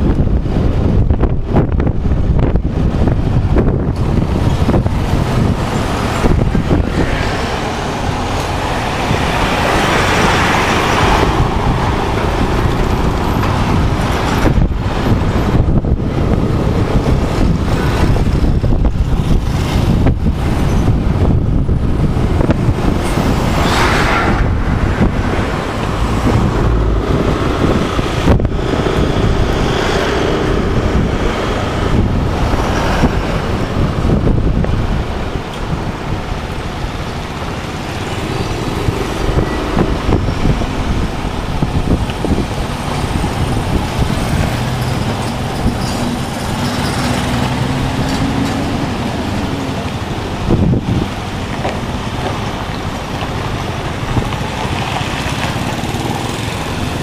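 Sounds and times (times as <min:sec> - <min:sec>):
passing traffic: 0:00.0 - 0:57.0
wind rumble on microphone: 0:00.0 - 0:57.0.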